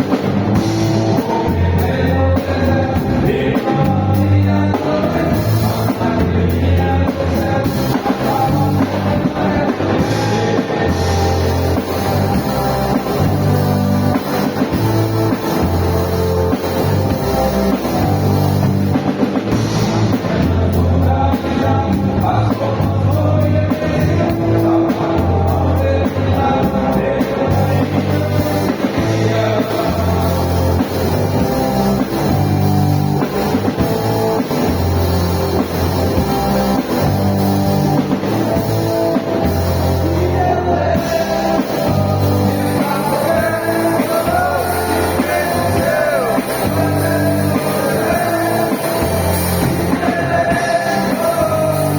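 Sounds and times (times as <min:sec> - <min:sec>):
bass guitar: 0:00.0 - 0:51.9
drum kit: 0:00.0 - 0:51.9
electric guitar: 0:00.0 - 0:51.9
men's choir singing: 0:00.0 - 0:51.9.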